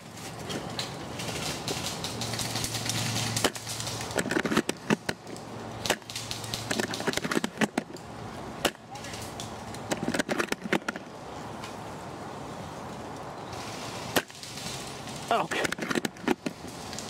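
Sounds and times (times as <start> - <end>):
sharp cracks and snaps: 0.0 - 11.8, 13.9 - 17.0.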